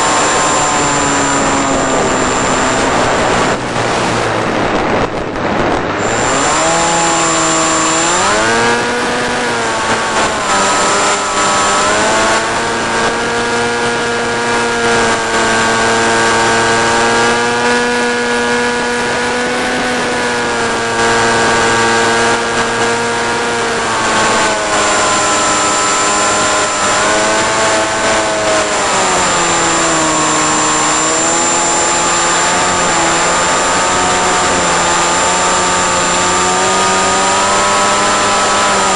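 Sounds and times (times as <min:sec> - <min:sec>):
electric motor and propeller whining: 0:00.0 - 0:38.9.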